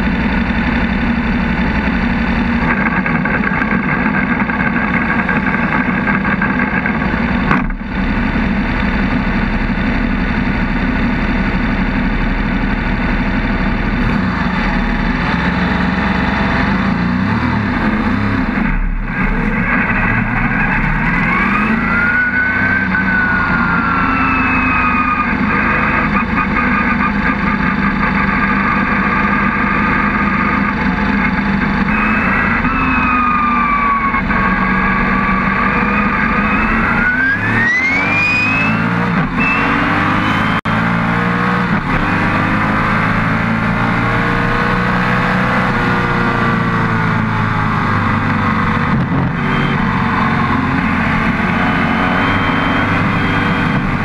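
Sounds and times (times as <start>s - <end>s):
racing engine running hard: 0.0s - 54.0s.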